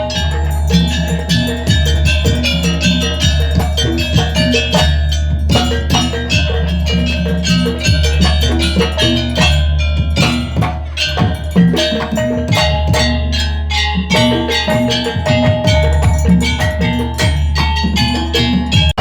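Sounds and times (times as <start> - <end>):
drums: 0.0 - 19.0
struck tuned metal percussion: 0.0 - 19.0.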